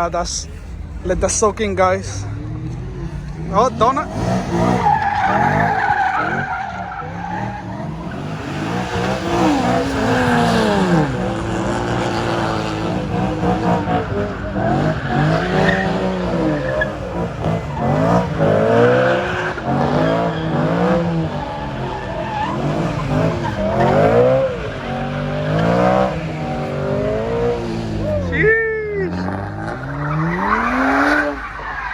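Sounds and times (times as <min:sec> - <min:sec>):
car engine revving: 0:00.0 - 0:31.9
tyres squealing and skidding: 0:00.0 - 0:31.9.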